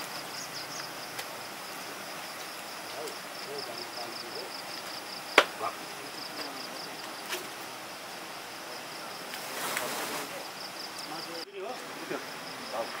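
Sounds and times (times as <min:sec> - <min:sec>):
insects trilling: 0:00.0 - 0:13.0
faint voices: 0:01.0 - 0:13.0.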